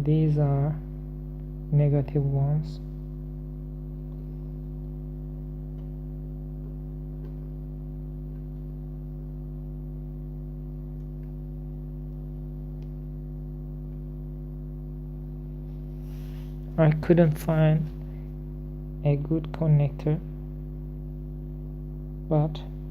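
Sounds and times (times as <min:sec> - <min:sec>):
electrical mains hum: 0:00.0 - 0:22.9.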